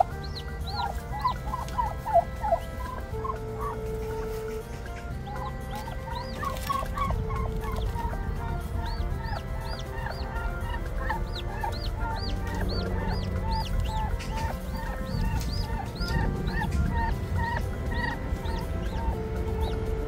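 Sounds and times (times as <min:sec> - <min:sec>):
background music: 0:00.0 - 0:20.0
turkey chicks peeping: 0:00.0 - 0:20.0
turkey hen clucking: 0:00.0 - 0:20.0.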